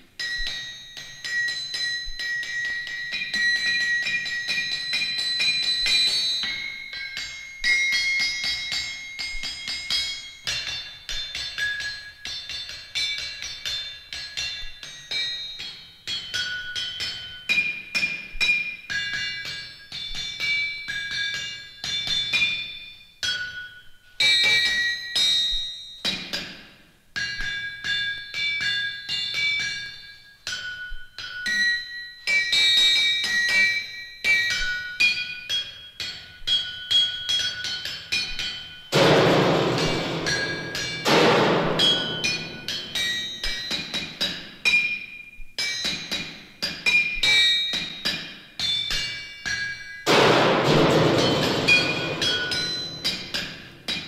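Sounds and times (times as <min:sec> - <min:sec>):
hammers ringing on anvils: 0:00.0 - 0:54.0.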